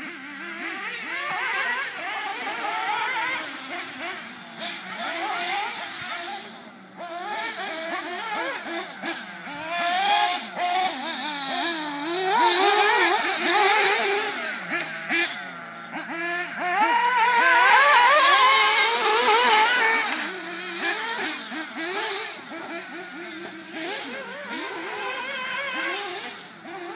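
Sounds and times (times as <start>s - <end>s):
rc car engines buzzing whine: 0.0s - 26.9s.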